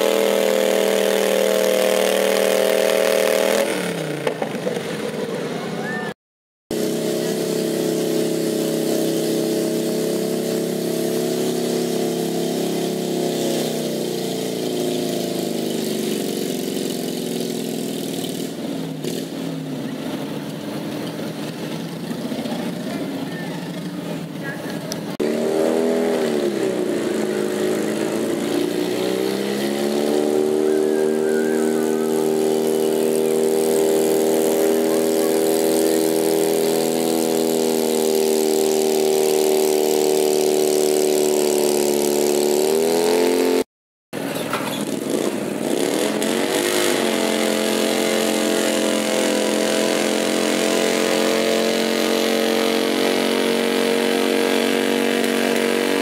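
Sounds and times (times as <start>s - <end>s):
garden tractor engine revving: 0.0s - 5.9s, 6.7s - 56.0s
garden tractor engine under load: 0.0s - 6.1s, 6.7s - 43.6s, 44.2s - 56.0s.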